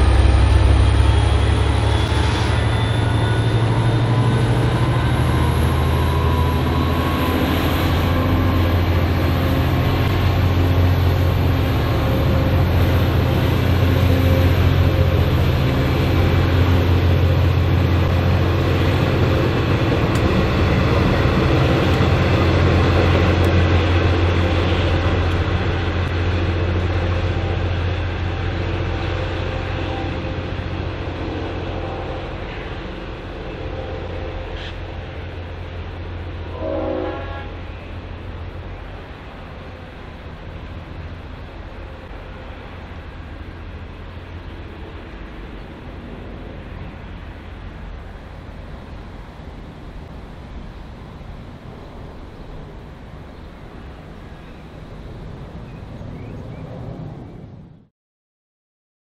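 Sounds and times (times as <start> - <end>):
diesel locomotive rumbling: 0.0 - 57.9.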